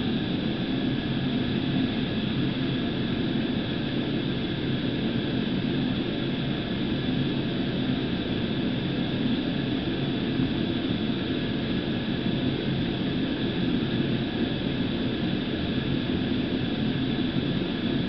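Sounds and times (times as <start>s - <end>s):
steady machine drone: 0.0s - 18.0s.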